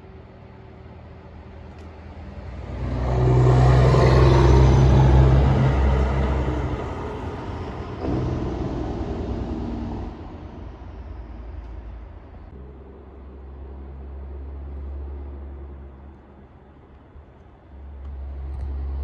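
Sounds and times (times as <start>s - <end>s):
diesel truck driving past: 0.0s - 19.0s.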